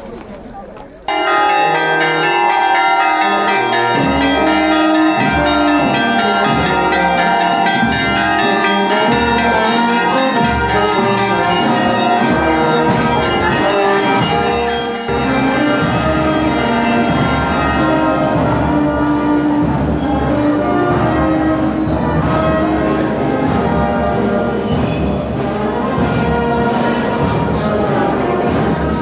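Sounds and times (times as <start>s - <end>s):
church bells pealing: 1.1s - 29.0s.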